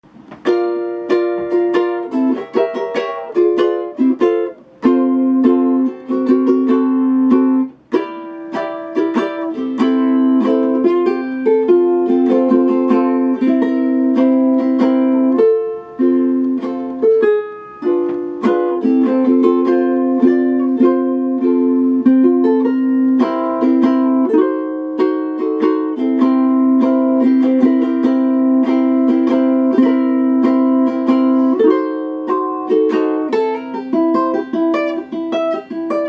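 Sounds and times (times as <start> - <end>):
acoustic plucked string instrument: 0.0 - 36.0.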